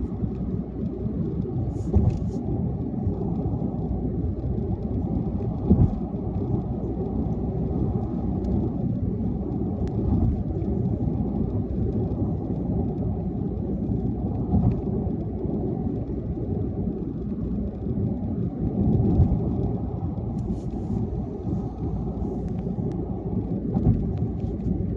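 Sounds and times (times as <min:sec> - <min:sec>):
car driving rumble: 0:00.0 - 0:24.9.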